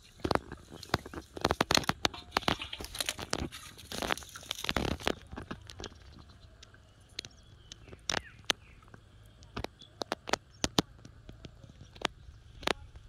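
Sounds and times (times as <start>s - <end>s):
clicks and taps of fishing gear: 0.0s - 13.0s.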